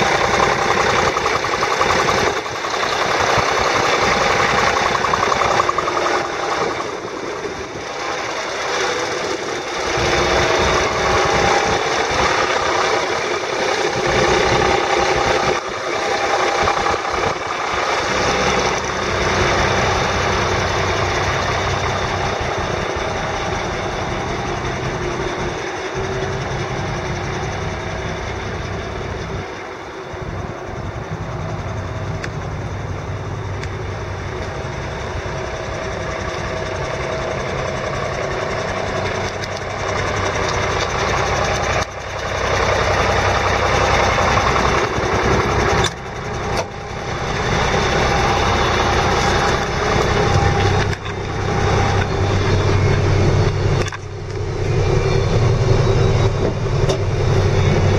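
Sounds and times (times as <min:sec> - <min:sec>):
truck engine idling: 0:00.0 - 0:57.9.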